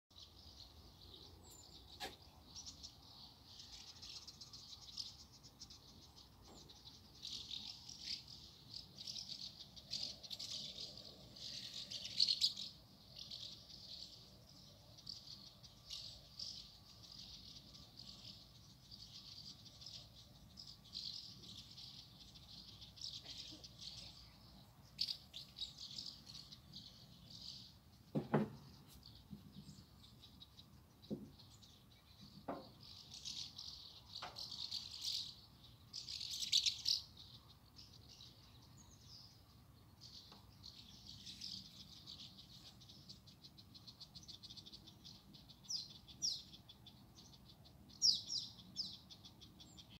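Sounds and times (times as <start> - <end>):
small birds chattering: 0.1 - 50.0.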